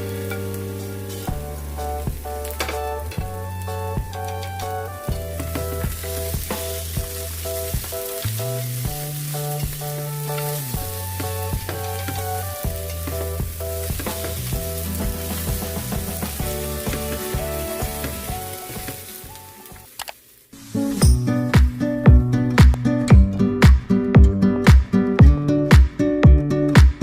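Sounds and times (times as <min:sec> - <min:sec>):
background music with beat: 0:00.0 - 0:19.9, 0:20.7 - 0:27.0
oil sizzling in a pan: 0:00.0 - 0:21.8.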